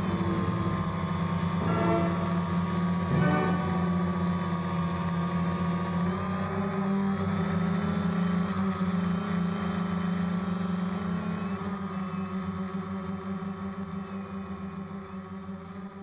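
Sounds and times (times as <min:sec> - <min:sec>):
drone propellers whirring: 0:00.0 - 0:15.5.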